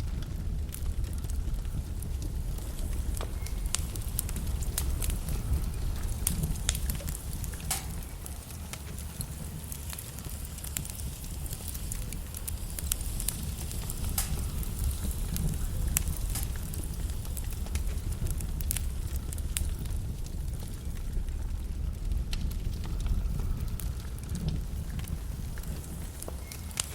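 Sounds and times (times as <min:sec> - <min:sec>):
logs crackling and popping: 0:00.0 - 0:26.9
low rumble of flames: 0:00.0 - 0:26.9.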